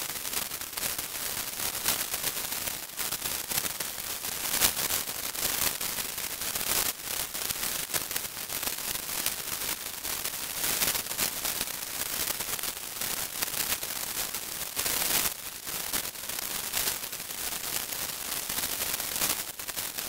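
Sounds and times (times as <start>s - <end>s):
white noise hiss with crackles: 0.0s - 20.0s.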